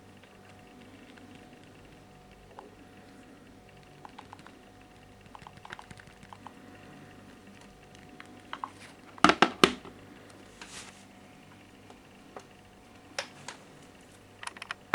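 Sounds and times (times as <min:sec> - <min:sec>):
faint steady hum: 0:00.0 - 0:14.9.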